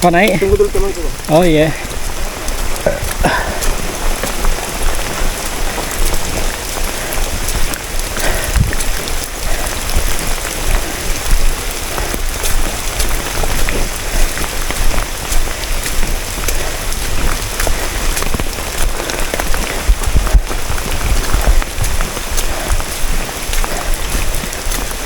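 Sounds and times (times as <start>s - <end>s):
rain drops hitting close: 0.0s - 25.0s.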